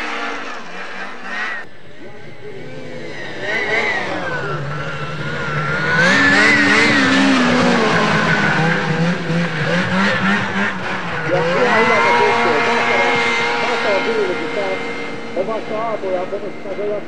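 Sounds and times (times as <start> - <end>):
snowmobile passing at full throttle: 0.0 - 17.0.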